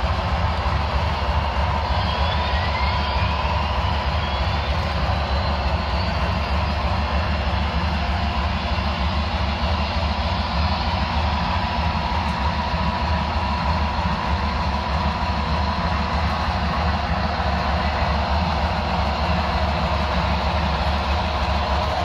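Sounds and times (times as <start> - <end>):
model trains rumbling on track: 0.0 - 22.0.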